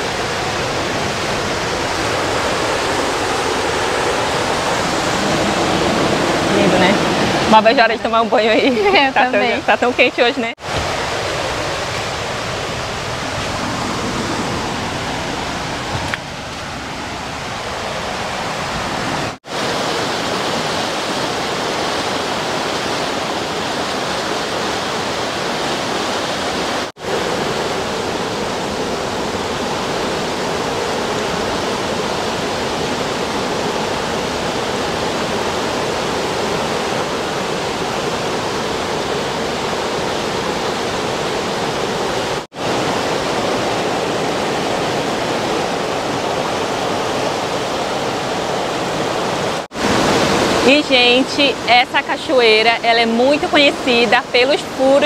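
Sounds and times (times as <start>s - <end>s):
river rapids rushing over rock: 0.0s - 55.0s.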